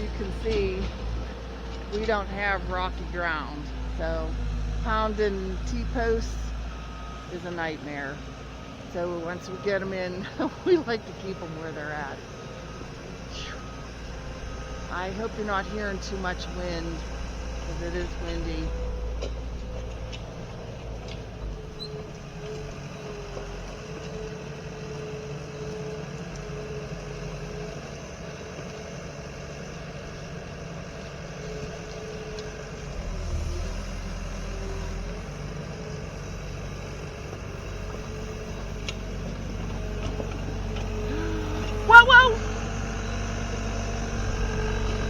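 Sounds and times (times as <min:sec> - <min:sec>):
farm machine engine running: 0:00.0 - 0:45.0.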